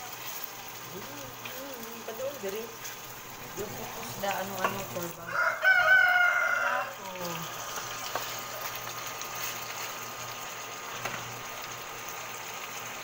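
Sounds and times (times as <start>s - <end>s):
chicken sizzling in a pot: 0.0s - 13.0s.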